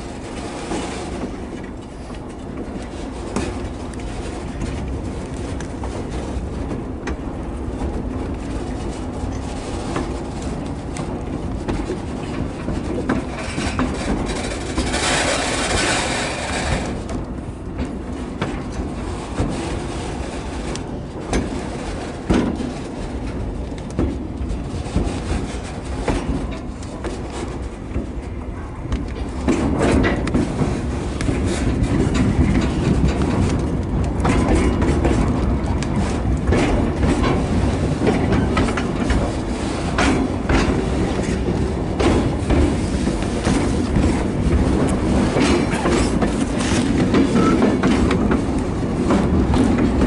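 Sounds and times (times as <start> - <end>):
train wheels rumbling on track: 0.0 - 50.0
wheels clicking over rail joints: 0.0 - 50.0.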